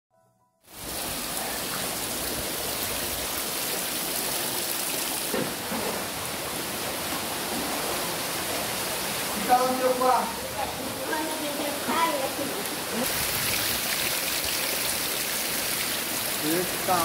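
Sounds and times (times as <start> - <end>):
heavy rain: 0.7 - 17.0
running floodwater: 0.7 - 17.0.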